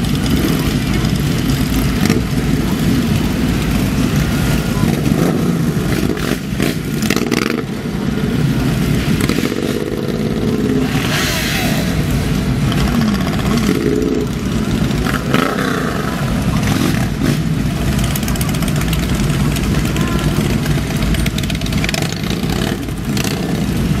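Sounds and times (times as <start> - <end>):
motorcycle engines revving: 0.0 - 24.0
rumble of many motorcycles: 0.0 - 24.0.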